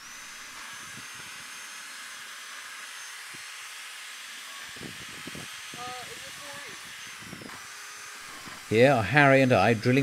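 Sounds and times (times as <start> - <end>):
cordless drill whirring: 0.0 - 10.0.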